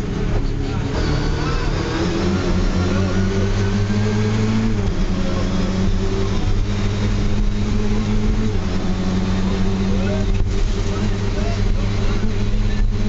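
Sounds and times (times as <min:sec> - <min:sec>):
rally car engine running hard: 0:00.0 - 0:13.0.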